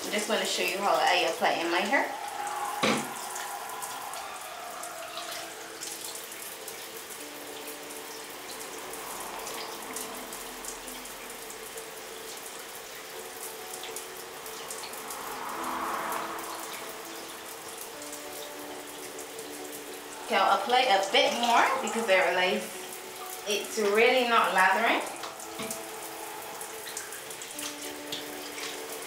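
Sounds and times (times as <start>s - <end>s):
water running: 0.0s - 29.0s.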